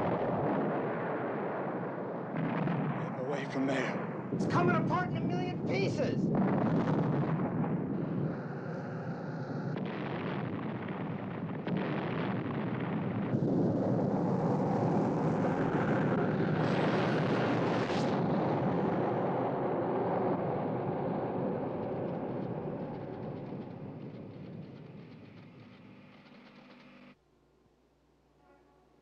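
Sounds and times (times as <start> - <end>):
explosion blast: 0.0 - 26.3
dense continuous rumble: 0.0 - 27.1.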